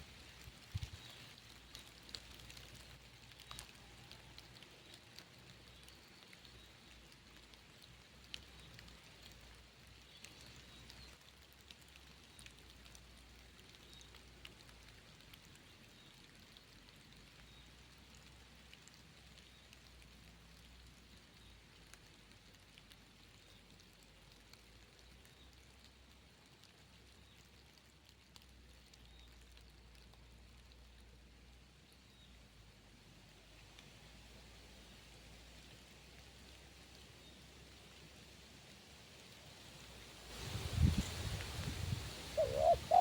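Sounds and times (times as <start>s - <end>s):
faint rain: 0.0s - 43.0s.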